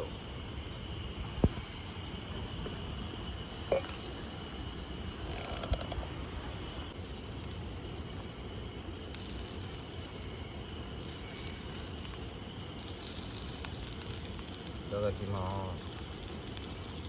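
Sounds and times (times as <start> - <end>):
meat sizzling on a grill pan: 0.0 - 17.0.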